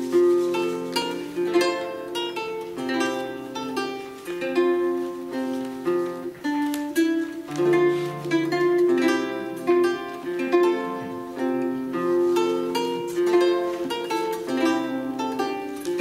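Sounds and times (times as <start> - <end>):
solo lute playing: 0.0 - 16.0.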